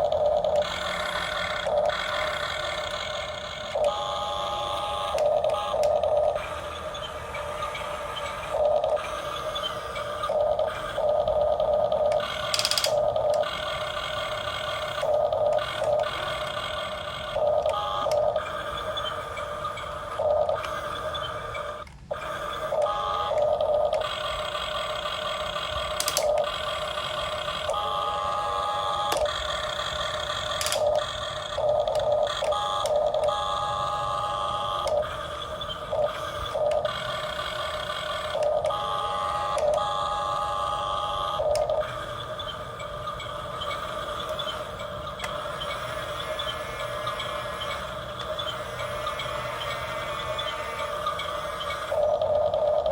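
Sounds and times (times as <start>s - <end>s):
electric motors whining: 0.0s - 52.9s.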